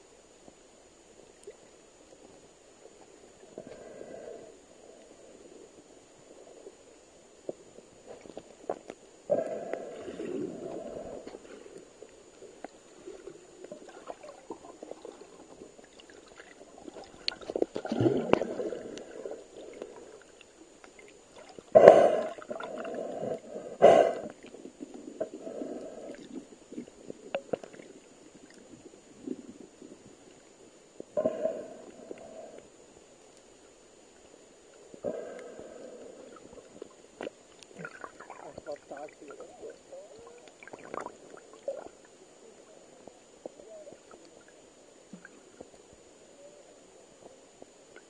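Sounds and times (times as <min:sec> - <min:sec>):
underwater gurgling: 0:01.0 - 0:48.0.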